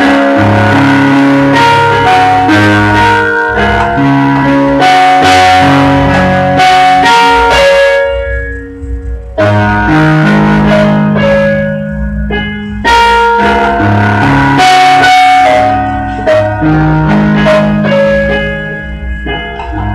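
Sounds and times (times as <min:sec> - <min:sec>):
electronic keyboard melody: 0:00.0 - 0:19.9
low bass notes: 0:00.0 - 0:19.9.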